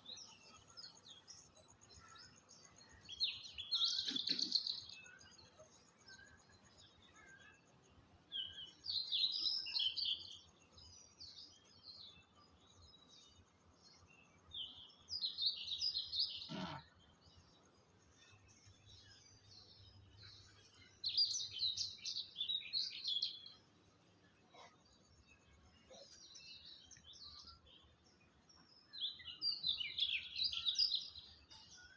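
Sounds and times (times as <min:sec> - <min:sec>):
songbird chirping: 0:00.0 - 0:31.9.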